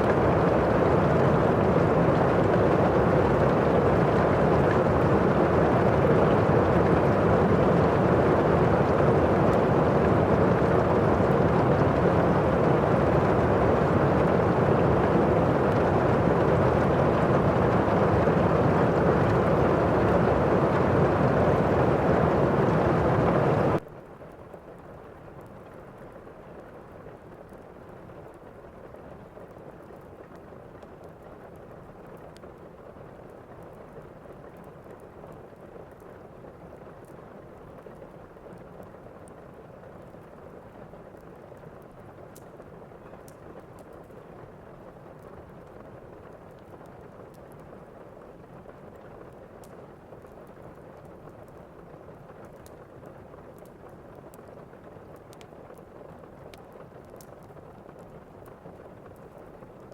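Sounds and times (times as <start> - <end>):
rain: 0.0 - 59.9.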